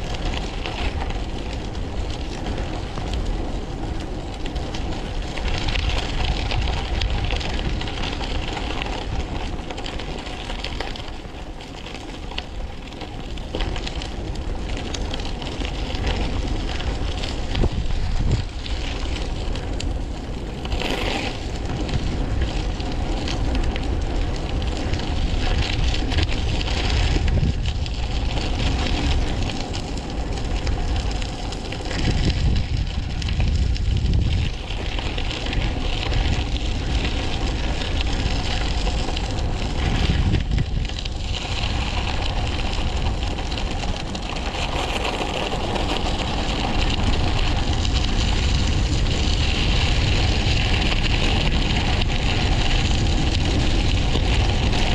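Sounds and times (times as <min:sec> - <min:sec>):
bike rumbling and rattling: 0:00.0 - 0:54.9
wind buffeting microphone: 0:00.0 - 0:54.9.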